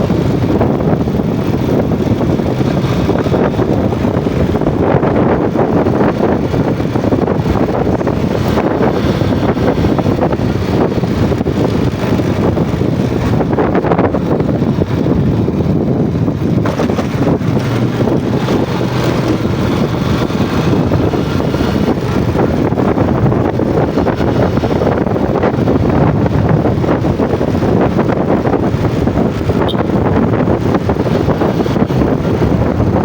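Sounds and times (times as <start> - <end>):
motorcycle engine drone: 0.0 - 33.0
wind buffeting on microphone: 0.0 - 33.0.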